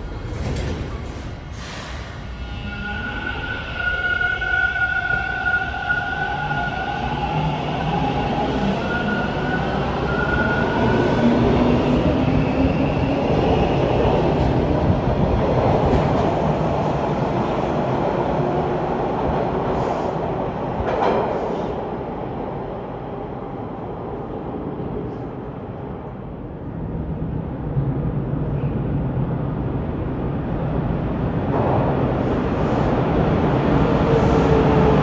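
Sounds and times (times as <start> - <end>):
subway train whine: 0.0 - 35.0
train wheels rumbling on rail: 0.0 - 35.0.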